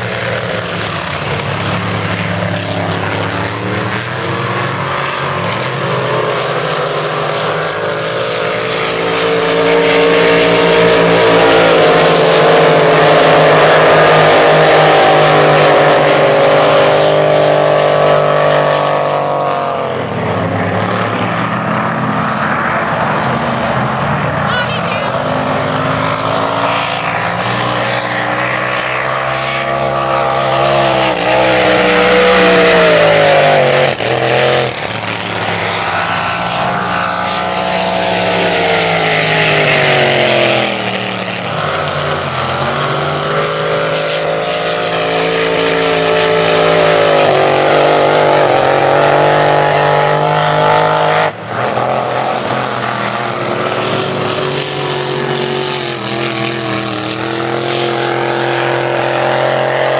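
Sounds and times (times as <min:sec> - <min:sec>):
race boat engines passing: 0:00.0 - 0:59.9.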